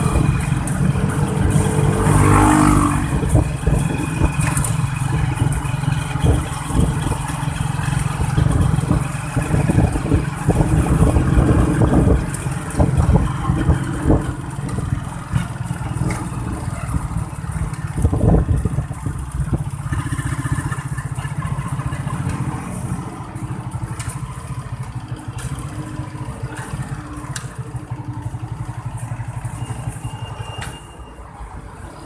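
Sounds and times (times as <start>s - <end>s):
vehicle engine running: 0.0s - 30.3s.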